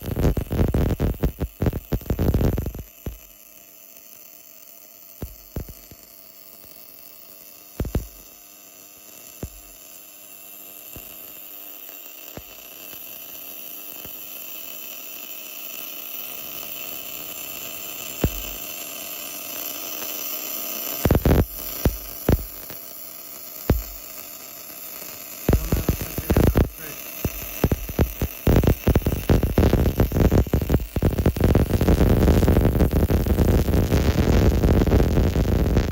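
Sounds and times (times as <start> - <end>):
welding arc hiss: 0.0 - 35.9
welding sharp pops: 0.0 - 35.9.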